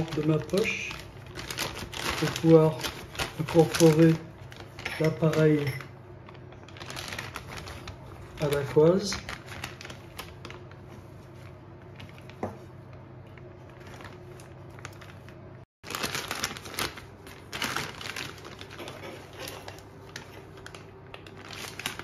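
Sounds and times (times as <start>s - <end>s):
plastic piping bag crinkling: 0.0s - 22.0s.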